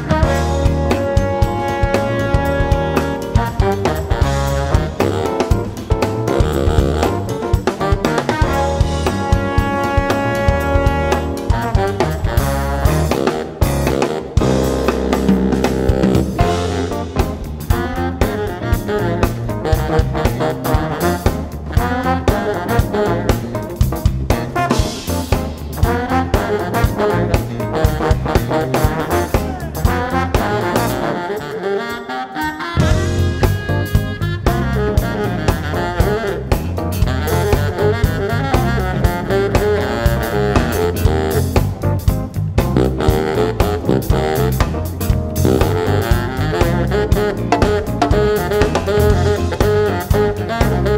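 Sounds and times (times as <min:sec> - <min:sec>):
electric bass: 0:00.0 - 0:31.6, 0:32.6 - 0:50.9
drum kit: 0:00.0 - 0:50.9
electric piano: 0:00.0 - 0:50.9
saxophone: 0:00.0 - 0:50.9
trombone: 0:00.0 - 0:50.9.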